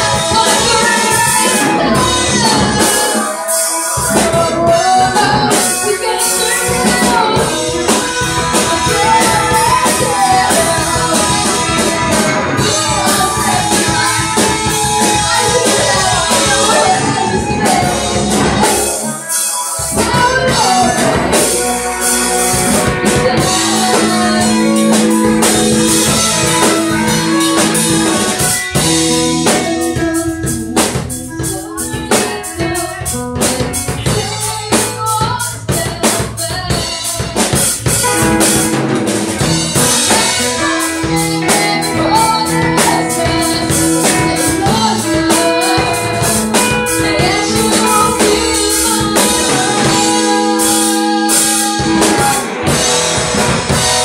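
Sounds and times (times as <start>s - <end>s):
woman singing into a microphone: 0.0s - 38.8s, 39.4s - 53.1s
drum kit: 0.0s - 54.0s
electric guitars: 0.0s - 54.0s.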